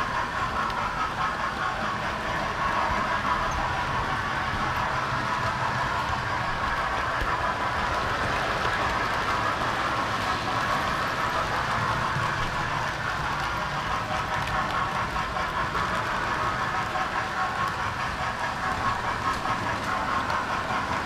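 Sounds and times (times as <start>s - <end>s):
model train whirring on track: 0.0s - 21.0s.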